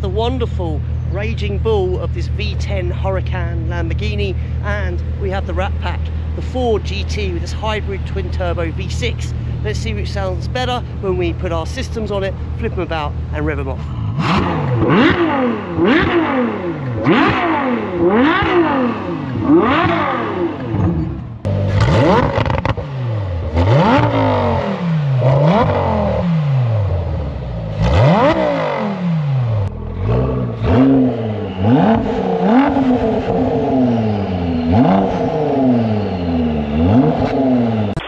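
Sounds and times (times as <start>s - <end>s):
sports car engines revving: 0.0s - 38.0s.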